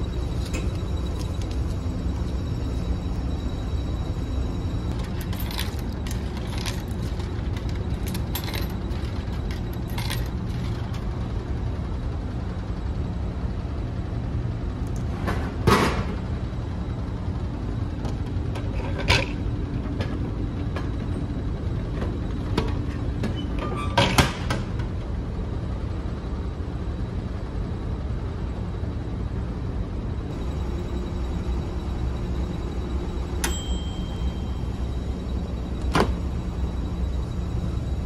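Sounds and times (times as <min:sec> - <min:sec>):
ship engines droning: 0:00.0 - 0:38.0.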